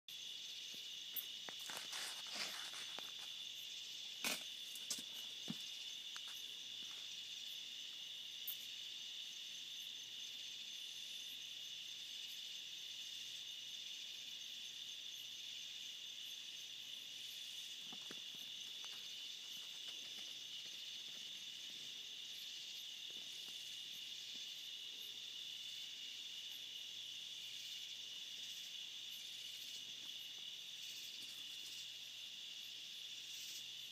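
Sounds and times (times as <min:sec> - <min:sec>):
night insects chirring: 0:00.1 - 0:33.9.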